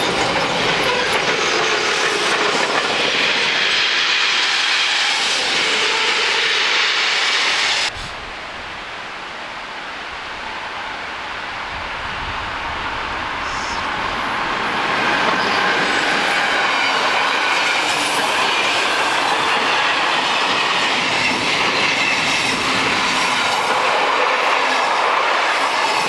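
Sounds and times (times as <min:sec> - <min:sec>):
train wheels running on rails: 0:00.0 - 0:08.0, 0:12.8 - 0:26.0.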